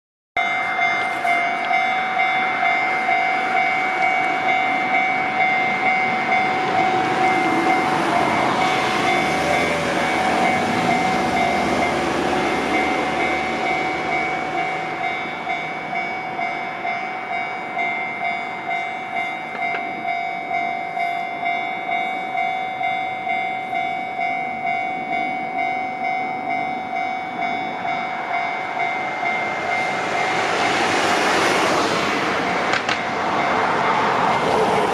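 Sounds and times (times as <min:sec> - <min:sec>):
level-crossing bell dinging: 0:00.4 - 0:30.9, 0:32.9 - 0:33.8
train rumbling past: 0:00.4 - 0:34.9.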